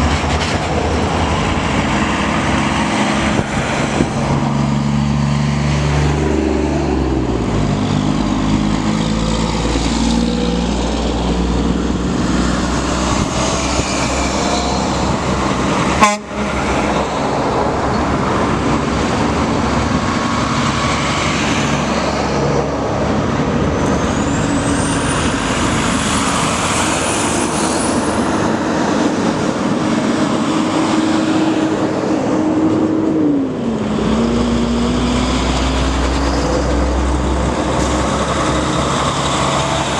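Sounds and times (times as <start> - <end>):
trucks driving past: 0.0 - 39.9.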